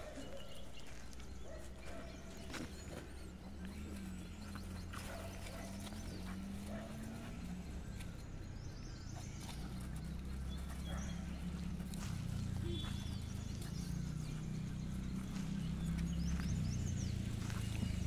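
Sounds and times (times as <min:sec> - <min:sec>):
paws scuffling on sand: 0:00.0 - 0:18.0
dogs growling: 0:01.3 - 0:18.0.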